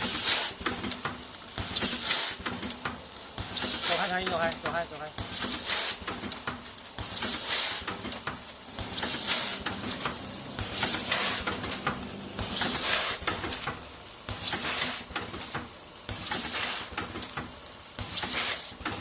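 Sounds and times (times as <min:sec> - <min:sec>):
packaging machine hissing rush: 0:00.0 - 0:19.0
machine clicks and knocks: 0:00.6 - 0:13.9, 0:15.1 - 0:19.0.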